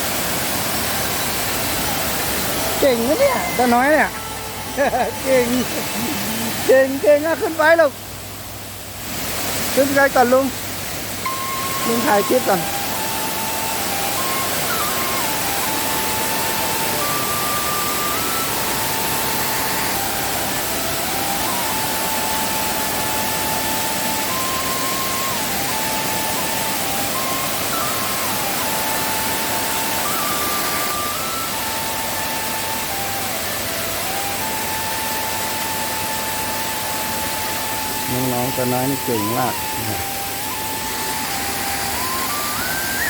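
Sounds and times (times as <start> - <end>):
waterfall roaring: 0.0 - 43.0
faint simple tune: 1.2 - 7.2, 11.2 - 43.0.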